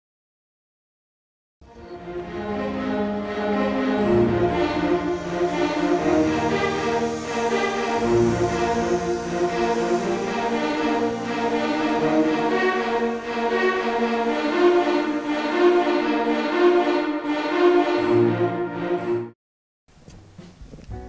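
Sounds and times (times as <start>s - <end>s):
violin and cello held notes: 1.6s - 19.3s.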